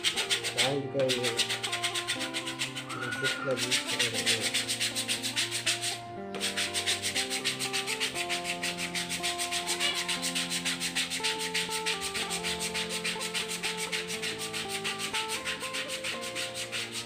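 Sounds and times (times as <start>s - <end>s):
sandpaper rubbing on wood: 0.0s - 17.0s.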